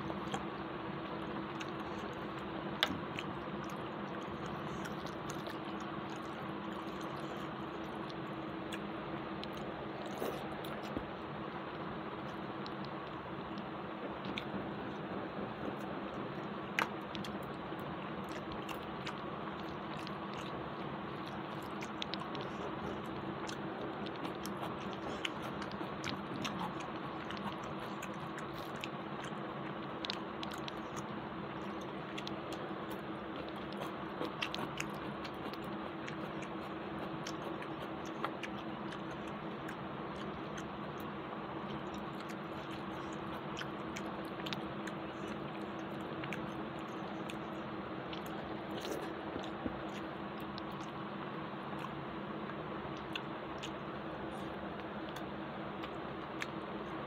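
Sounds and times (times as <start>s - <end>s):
person chewing: 0.0s - 51.0s, 51.7s - 57.0s
steady background hum: 0.0s - 57.0s.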